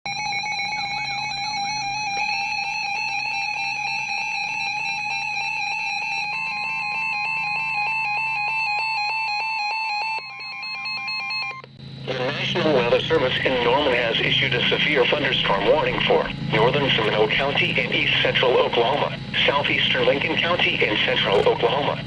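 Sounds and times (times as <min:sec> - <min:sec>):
rapidly pulsing alert tone: 0:00.1 - 0:22.0
steady warning beep: 0:00.1 - 0:22.0.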